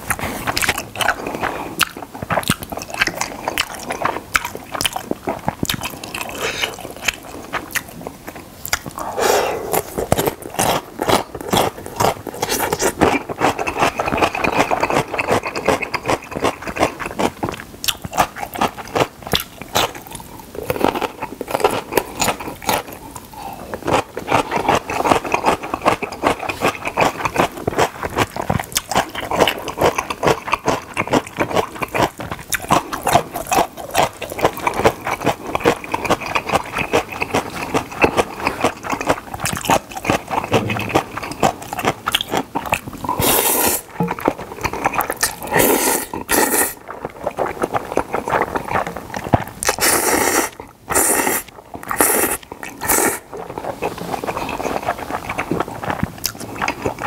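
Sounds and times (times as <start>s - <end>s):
crunching and chewing radish: 0.0s - 57.0s.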